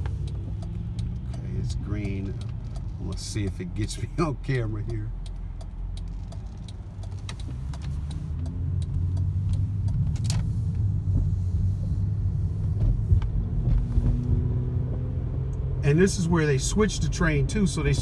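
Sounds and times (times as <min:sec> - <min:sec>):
car engine accelerating: 0:00.0 - 0:18.0
road noise inside car: 0:00.0 - 0:18.0.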